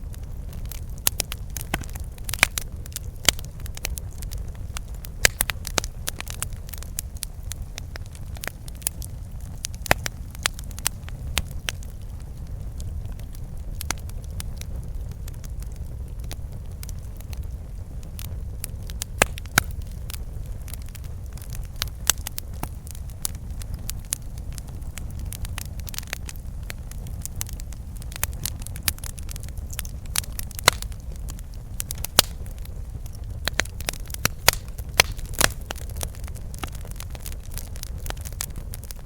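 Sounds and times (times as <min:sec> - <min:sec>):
low rumble of flames: 0:00.0 - 0:39.0
wood crackling and popping: 0:00.0 - 0:39.0.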